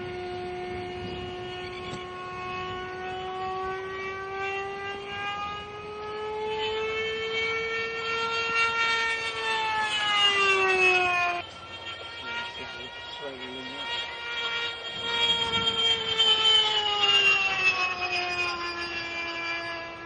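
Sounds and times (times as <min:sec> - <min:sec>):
model jet engine whining: 0:00.0 - 0:20.0.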